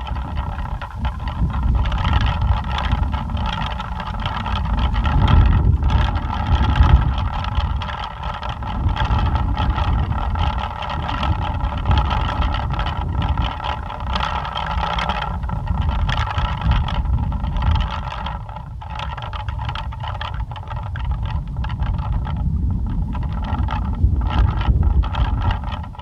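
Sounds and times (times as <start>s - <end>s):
plastic pinwheel whirring: 0.0s - 26.0s
wind buffeting microphone: 0.0s - 26.0s.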